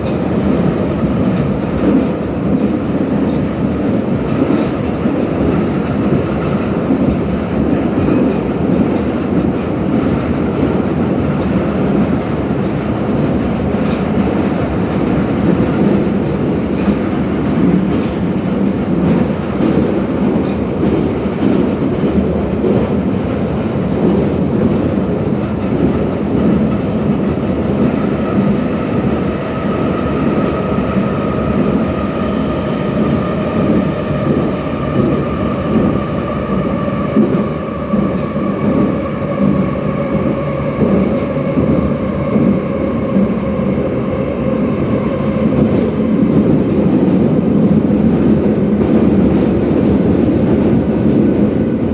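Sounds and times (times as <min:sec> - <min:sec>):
metro wheels rumbling on rails: 0:00.0 - 0:51.9.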